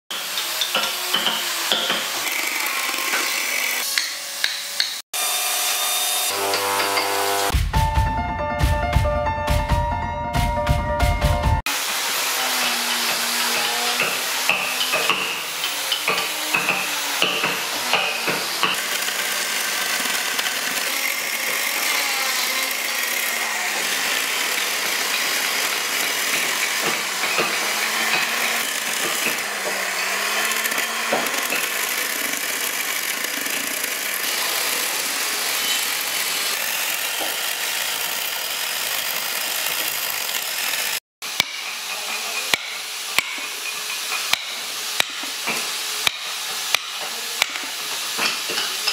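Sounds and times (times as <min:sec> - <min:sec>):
chainsaw cutting wood: 0:00.1 - 0:07.5, 0:11.7 - 0:48.9.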